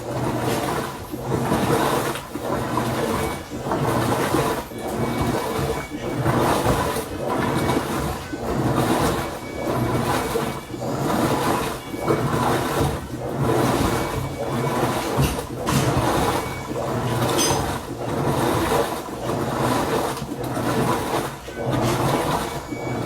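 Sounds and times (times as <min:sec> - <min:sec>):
rhythmic water swishing: 0:00.0 - 0:23.0
washing machine motor hum: 0:00.0 - 0:23.0.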